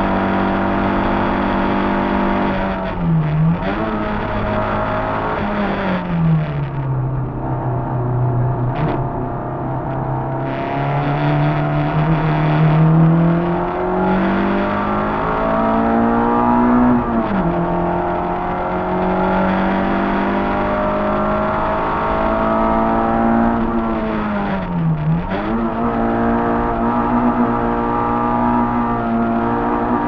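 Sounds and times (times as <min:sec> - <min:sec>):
car engine revving under full throttle: 0:00.0 - 0:30.0.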